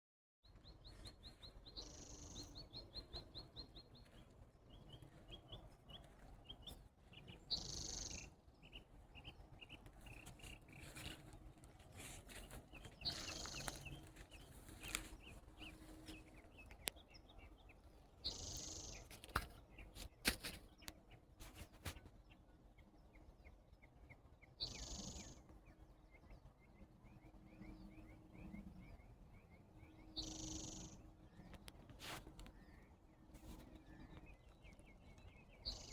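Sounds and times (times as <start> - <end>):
birds trilling chirps: 0.4 - 35.9.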